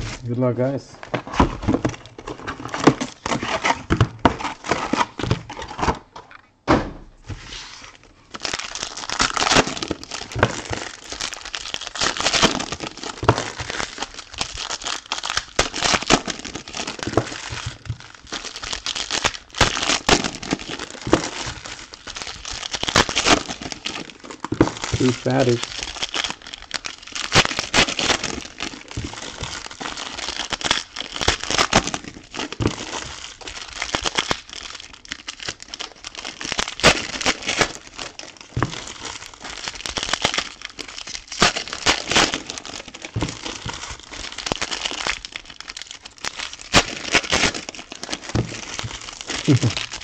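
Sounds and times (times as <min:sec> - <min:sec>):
foil packs crinkling: 0:00.0 - 0:06.4, 0:07.5 - 0:50.0.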